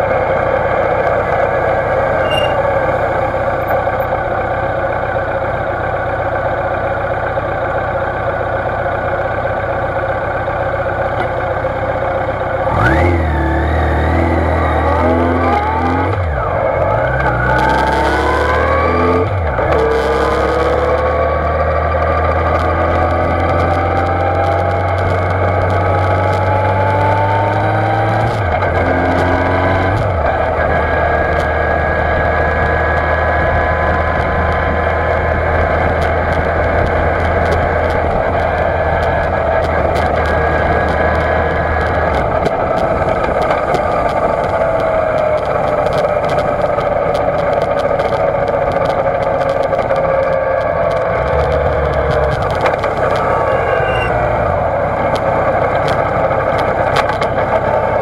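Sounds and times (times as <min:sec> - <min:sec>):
motorcycle engine accelerating: 0:00.0 - 0:58.0
road noise: 0:00.0 - 0:58.0.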